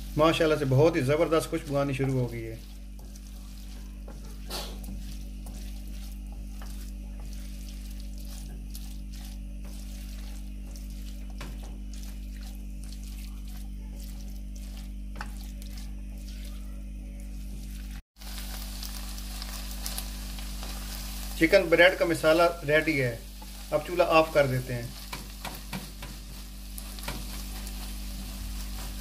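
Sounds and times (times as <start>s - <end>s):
chicken sizzling in a wok: 0.0s - 29.0s
spatula scraping a wok: 0.0s - 29.0s
steady low hum: 0.0s - 29.0s.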